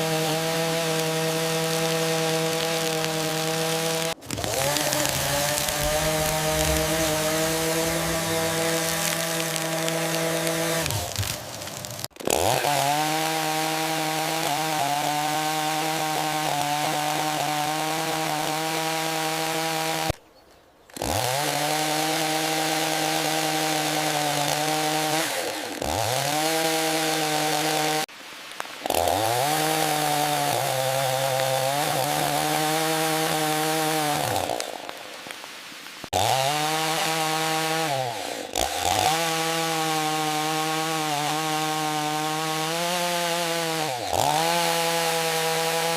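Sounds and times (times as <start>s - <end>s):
chainsaw cutting wood: 0.0s - 20.2s, 20.9s - 35.4s, 36.1s - 45.9s.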